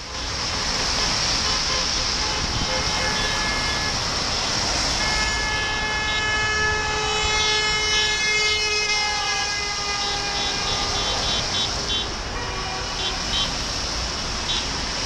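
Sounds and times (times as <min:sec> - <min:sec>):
traffic hissing on wet road: 0:00.0 - 0:15.0
car horns honking: 0:00.1 - 0:13.7, 0:14.3 - 0:14.9.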